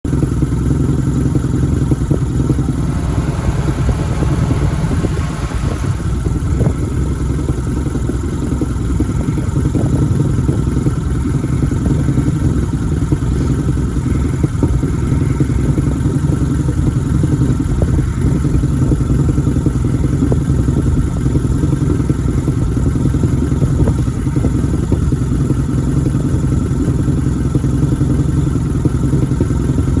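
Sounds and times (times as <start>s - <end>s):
car engine idling roughly: 0.1s - 30.0s.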